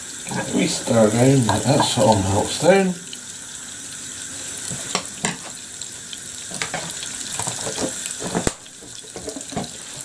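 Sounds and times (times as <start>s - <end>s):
butter sizzling in hot oil: 0.0s - 10.0s.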